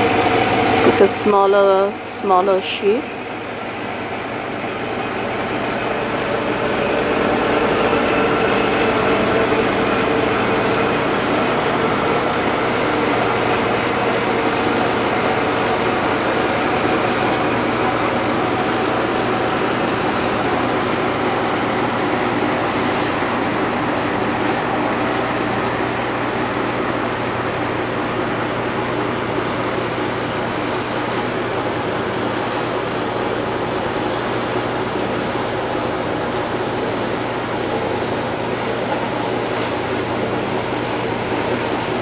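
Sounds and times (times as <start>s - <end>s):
ship engine drone: 0.0s - 42.0s.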